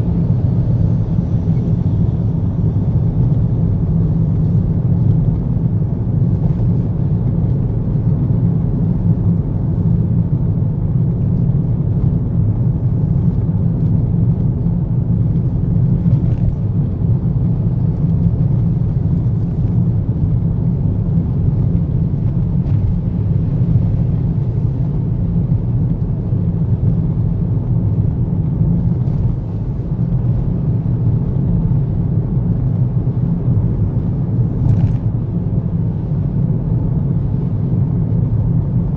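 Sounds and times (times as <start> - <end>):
car interior road rumble: 0.0 - 38.9.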